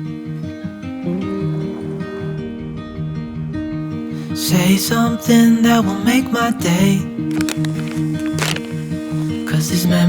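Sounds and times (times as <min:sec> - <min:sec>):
acoustic guitar: 0:00.0 - 0:10.0.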